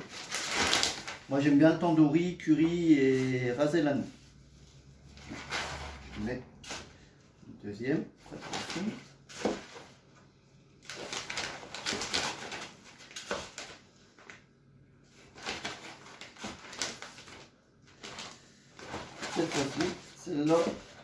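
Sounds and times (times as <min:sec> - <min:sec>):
plastic bag rustling: 0:00.0 - 0:07.1, 0:08.2 - 0:10.2, 0:10.8 - 0:14.4, 0:15.1 - 0:21.0.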